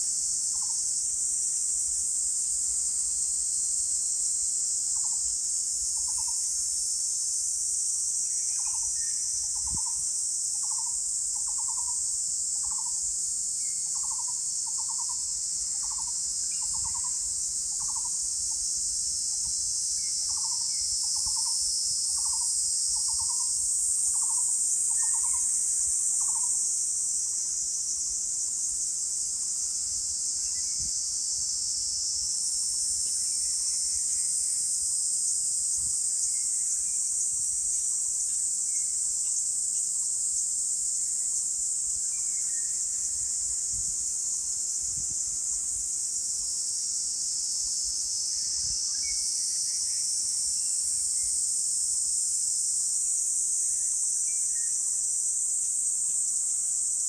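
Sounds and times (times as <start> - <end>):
shrill insect chorus: 0.0 - 57.0.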